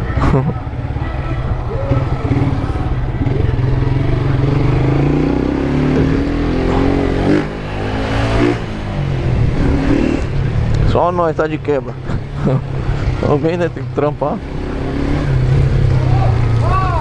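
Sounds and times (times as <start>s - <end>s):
motorcycle engine shifting gears: 0.0s - 17.0s.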